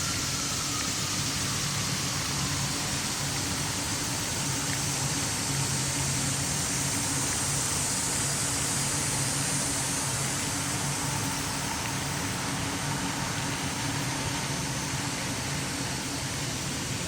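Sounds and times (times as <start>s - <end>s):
continuous hiss: 0.0s - 17.0s.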